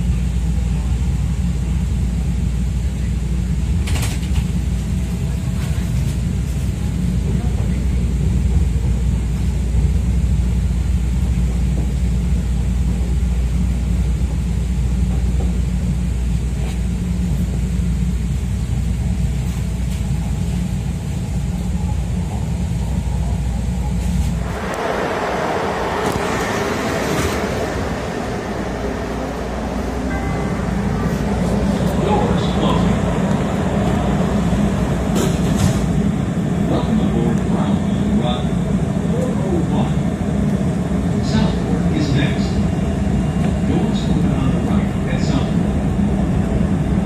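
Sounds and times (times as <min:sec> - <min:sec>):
train car low rumble: 0:00.0 - 0:47.0.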